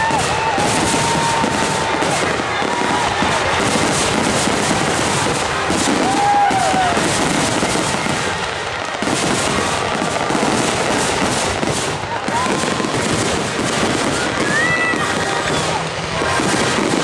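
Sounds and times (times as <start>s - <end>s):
fireworks bursts and crackle: 0.0s - 17.0s.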